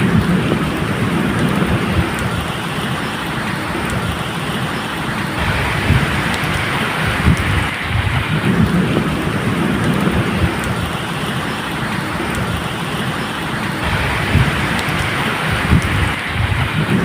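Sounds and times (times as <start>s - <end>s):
rain falling: 0.0s - 17.0s
raindrop ticks: 0.0s - 17.0s
thunder rumbling: 0.0s - 17.0s.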